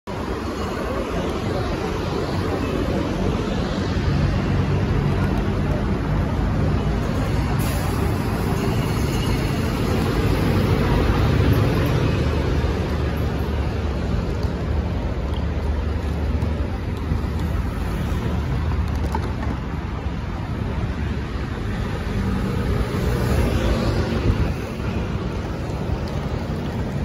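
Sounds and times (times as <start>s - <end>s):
cars and scooters driving: 0.1s - 27.0s.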